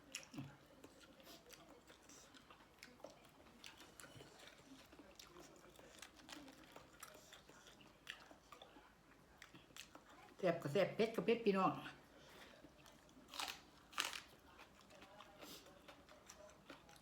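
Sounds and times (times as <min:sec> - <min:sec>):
close-up chewing: 0:00.0 - 0:10.4, 0:12.1 - 0:17.0.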